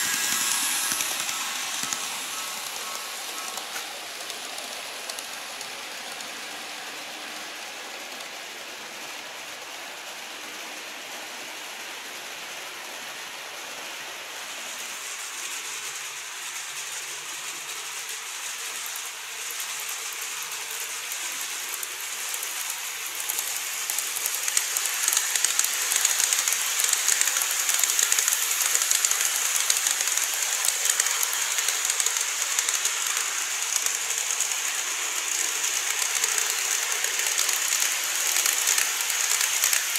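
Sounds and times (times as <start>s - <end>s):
model train motor whir: 0.0s - 39.9s
model train wheels rattling on rails: 0.0s - 39.9s.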